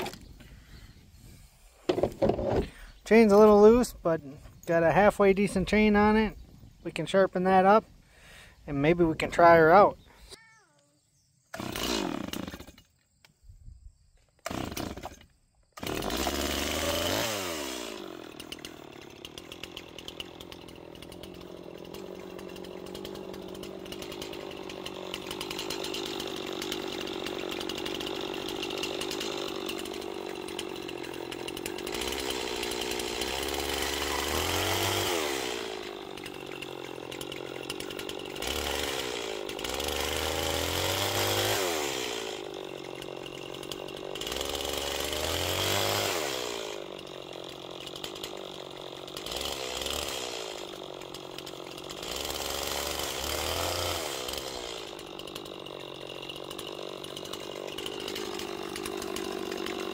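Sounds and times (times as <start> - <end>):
chainsaw revving and idling: 0.0 - 0.3, 1.9 - 10.1, 11.5 - 13.0, 14.4 - 59.9.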